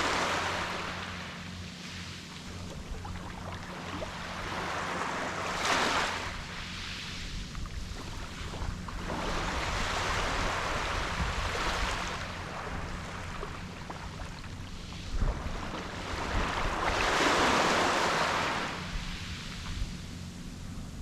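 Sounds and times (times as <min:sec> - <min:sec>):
ocean waves washing onto beach: 0:00.0 - 0:20.3.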